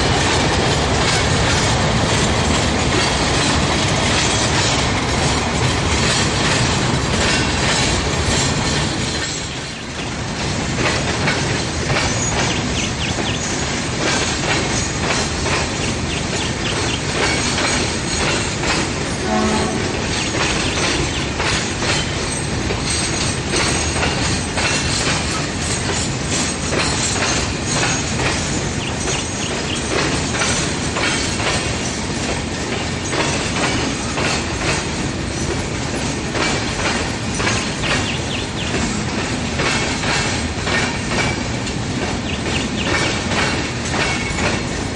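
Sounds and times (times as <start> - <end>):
train wheels clattering: 0.0 - 44.9.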